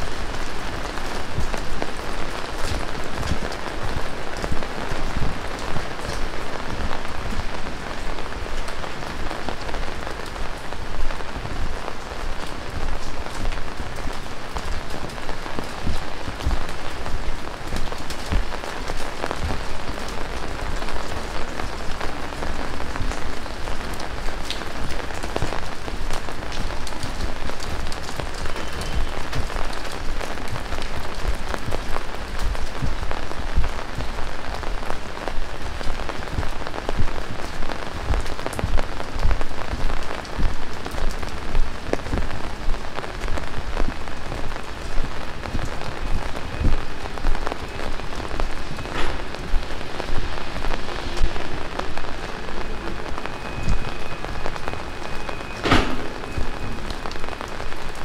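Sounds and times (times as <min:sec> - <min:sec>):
heavy rain hissing: 0:00.0 - 0:58.0
raindrops clicking and thumping: 0:00.0 - 0:58.0.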